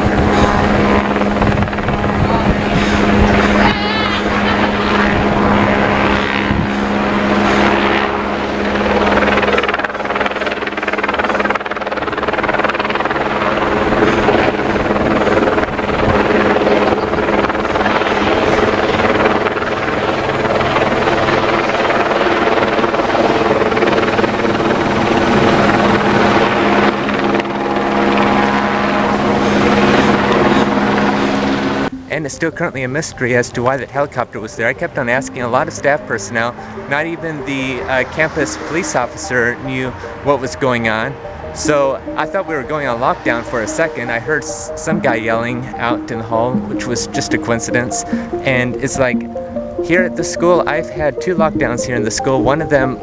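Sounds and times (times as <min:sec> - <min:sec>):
helicopter rotor drone: 0:00.0 - 0:53.0.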